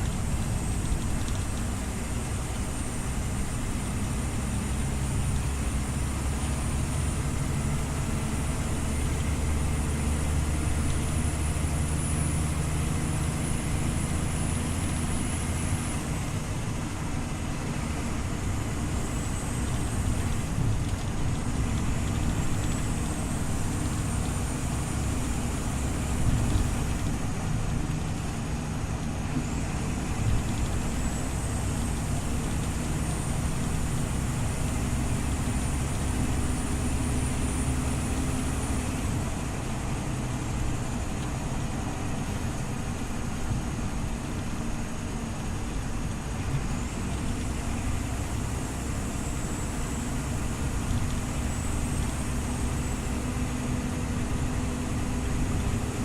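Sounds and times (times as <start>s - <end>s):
bus engine drone: 0.0s - 56.0s
road noise: 0.0s - 56.0s.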